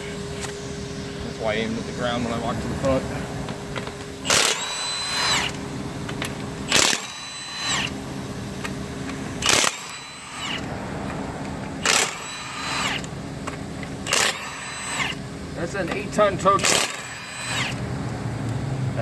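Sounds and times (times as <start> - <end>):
steady low hum: 0.0 - 19.0
impact wrench rattling and whining: 0.2 - 17.9.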